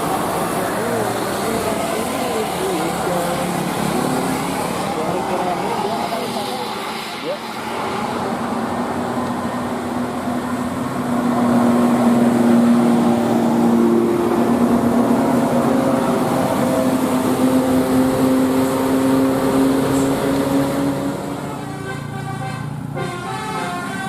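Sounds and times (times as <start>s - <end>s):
rushing noise: 0.0s - 21.6s
bus engine running: 0.0s - 24.0s.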